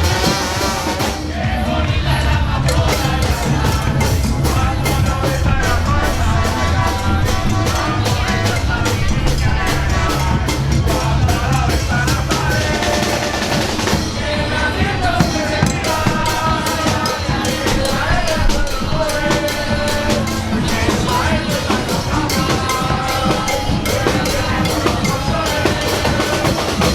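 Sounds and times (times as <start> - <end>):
heavy bass: 0.0 - 26.9
loud music with drum beat: 0.0 - 26.9
person singing: 1.3 - 26.9.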